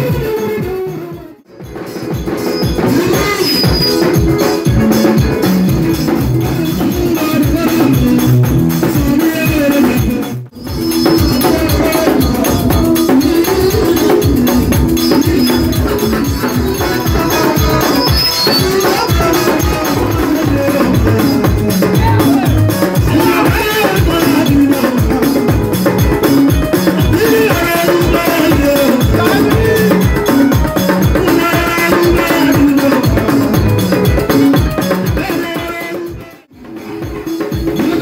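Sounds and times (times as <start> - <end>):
electronic keyboard playing: 0.0 - 38.0
fast percussion beat: 0.0 - 38.0.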